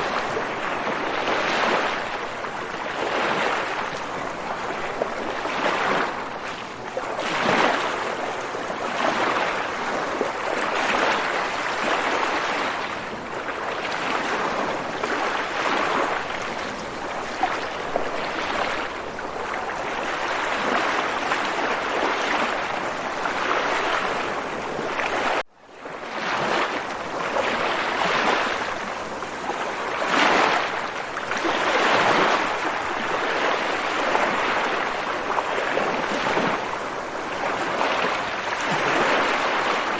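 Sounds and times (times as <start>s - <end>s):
waves washing: 0.0s - 39.9s.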